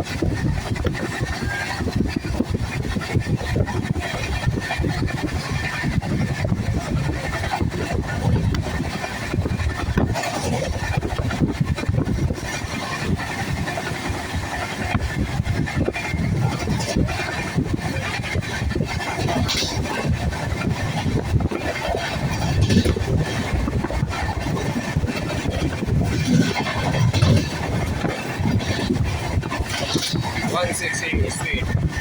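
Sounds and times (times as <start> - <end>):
train running on rails: 0.0 - 32.0.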